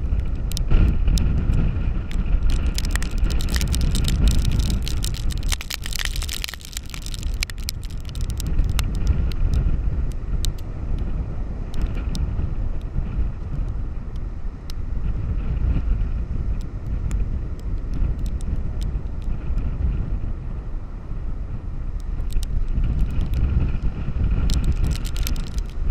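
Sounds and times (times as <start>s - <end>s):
sharp ticks on microphone: 0.0s - 20.2s, 22.0s - 25.9s
wind buffeting microphone: 0.0s - 25.9s.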